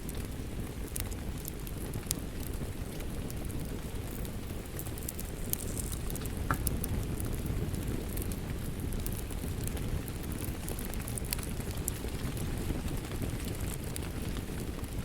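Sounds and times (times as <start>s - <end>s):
rain: 0.0s - 15.0s
wood fire crackling and popping: 0.0s - 15.0s.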